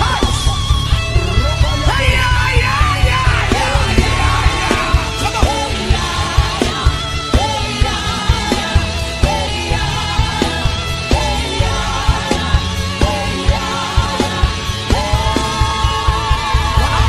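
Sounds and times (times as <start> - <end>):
steady bass beat: 0.0 - 17.0
person singing: 1.2 - 17.0.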